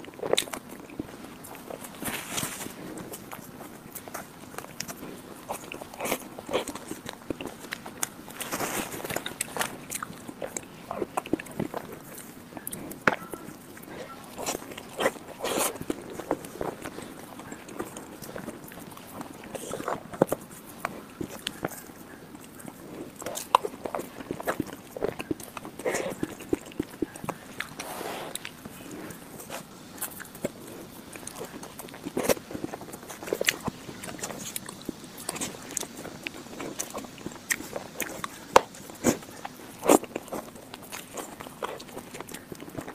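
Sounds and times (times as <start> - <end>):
chewing: 0.0 - 42.9
wet eating mouth sounds: 0.0 - 42.9.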